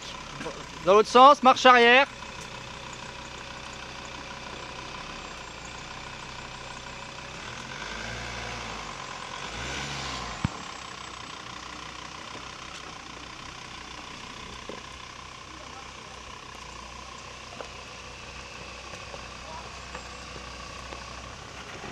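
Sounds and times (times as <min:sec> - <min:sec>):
car engine at low revs: 0:00.0 - 0:21.9.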